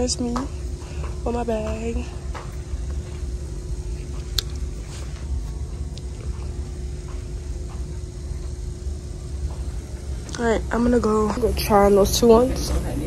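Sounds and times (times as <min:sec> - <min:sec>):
faint constant hum: 0:00.0 - 0:13.0
room noise rumble: 0:00.0 - 0:13.0.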